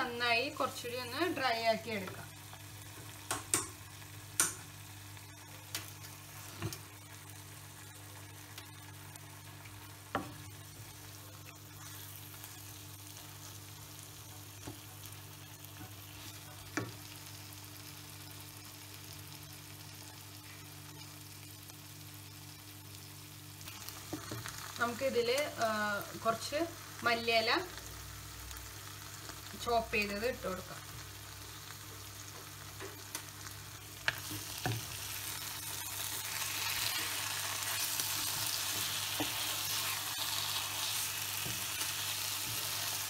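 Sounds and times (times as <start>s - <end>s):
chicken sizzling in a wok: 0.0s - 43.0s.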